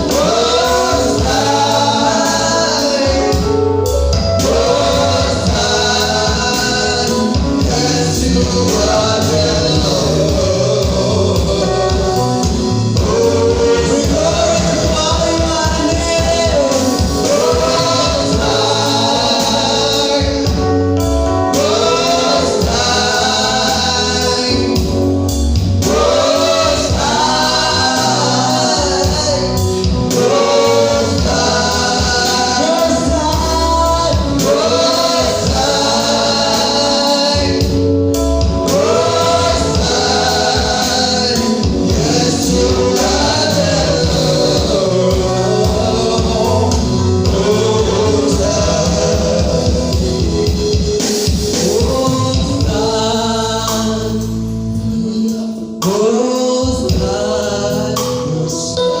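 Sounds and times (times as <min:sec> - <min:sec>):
band with bass and drums: 0:00.0 - 0:59.0
choir singing gospel song: 0:00.0 - 0:59.0.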